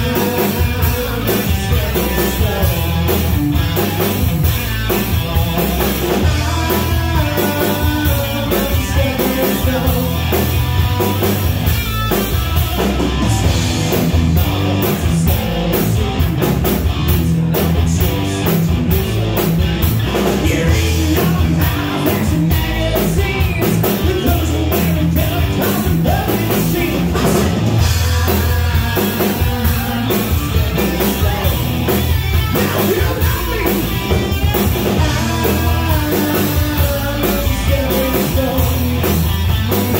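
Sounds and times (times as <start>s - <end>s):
distorted electric guitar: 0.0s - 39.9s
drum kit beat: 0.0s - 39.9s
electric bass: 0.0s - 39.9s.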